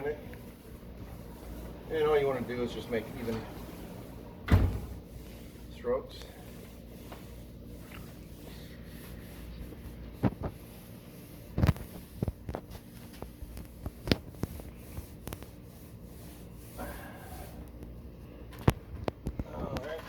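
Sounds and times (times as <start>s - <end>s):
paint applicator rubbing on metal: 0.0s - 17.9s.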